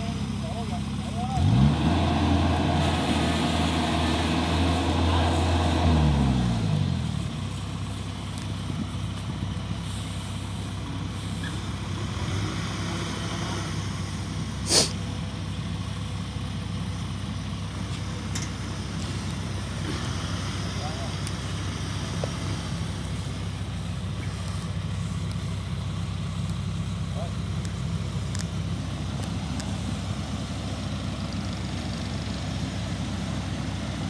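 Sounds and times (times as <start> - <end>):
combine harvester engine running: 0.0 - 34.0.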